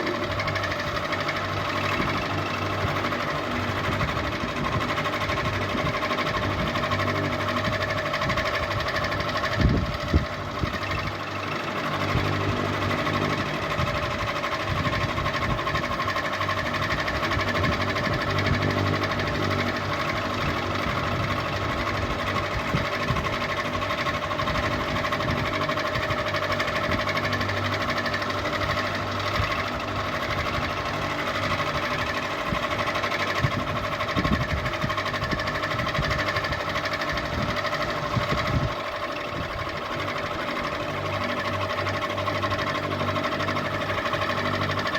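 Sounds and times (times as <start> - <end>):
ceiling fan motor hum: 0.0 - 44.9.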